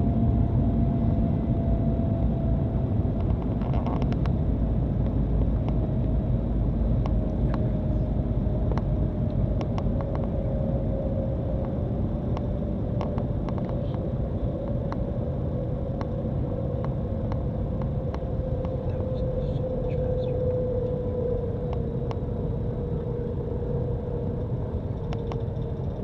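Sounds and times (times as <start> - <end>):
train cabin rumble and hum: 0.0 - 26.0.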